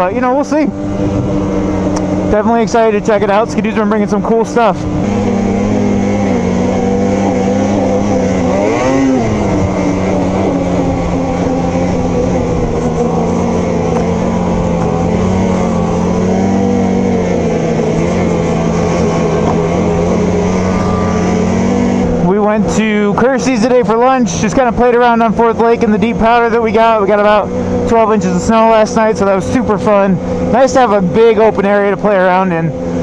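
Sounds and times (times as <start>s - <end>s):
snowmobile engine running: 0.0s - 33.0s.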